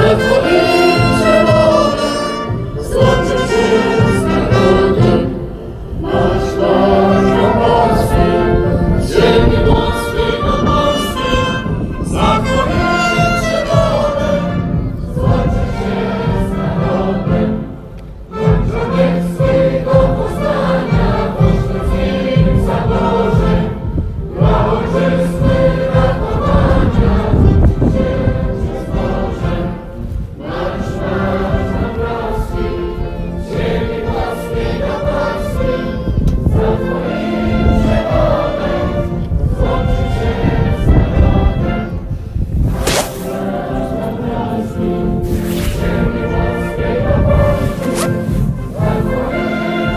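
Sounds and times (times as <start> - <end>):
choir singing with instruments: 0.0 - 42.0, 42.6 - 49.9.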